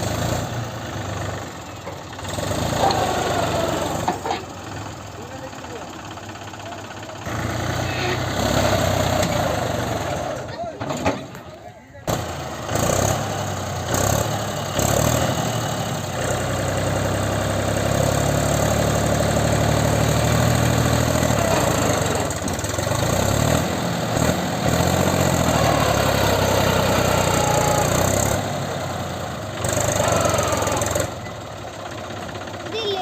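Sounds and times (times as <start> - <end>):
tractor diesel engine revving: 0.0 - 33.0.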